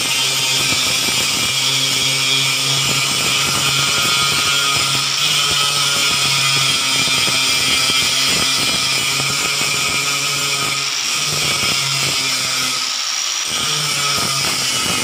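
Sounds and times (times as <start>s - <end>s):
abrasive grinding metal: 0.0s - 15.0s
angle grinder motor whine: 0.0s - 15.0s.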